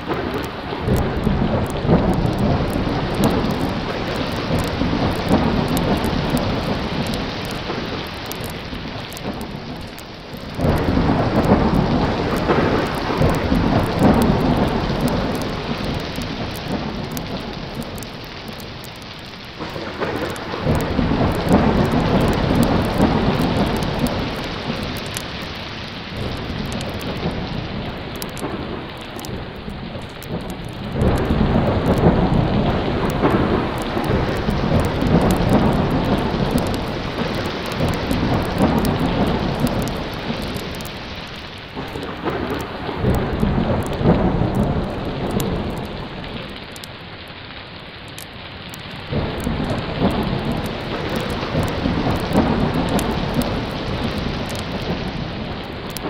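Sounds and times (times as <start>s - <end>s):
rolling thunder: 0.0s - 46.8s, 48.9s - 56.0s
heavy rain falling: 0.0s - 56.0s.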